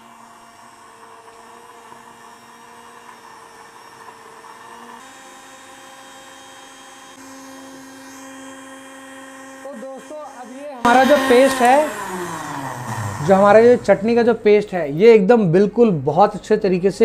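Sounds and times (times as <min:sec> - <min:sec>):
mixer grinder humming: 0:00.0 - 0:14.8.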